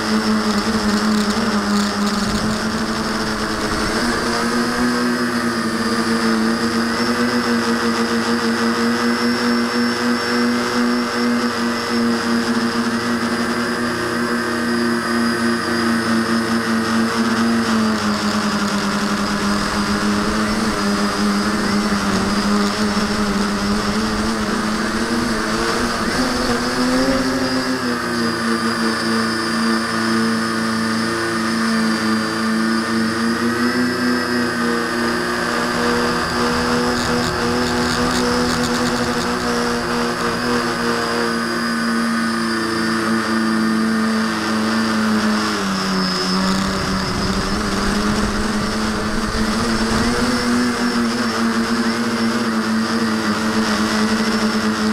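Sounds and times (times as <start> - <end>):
quadcopter propellers buzzing: 0.0 - 54.9.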